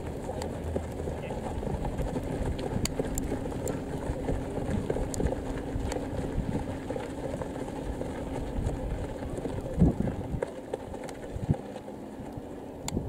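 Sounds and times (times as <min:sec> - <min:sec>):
faint hum: 0:00.0 - 0:13.0
low outdoor rumble: 0:00.0 - 0:13.0.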